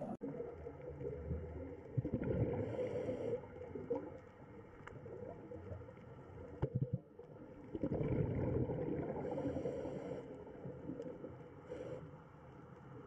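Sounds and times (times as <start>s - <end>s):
water rumbling underwater: 0.0s - 12.0s.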